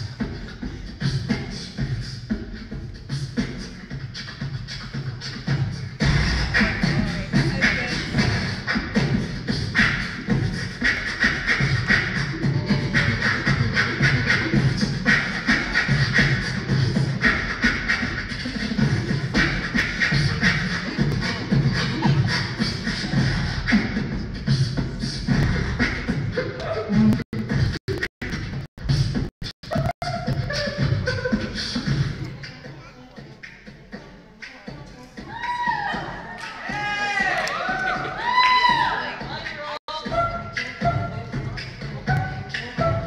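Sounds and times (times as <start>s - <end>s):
beatboxing into a microphone: 0.0s - 43.0s.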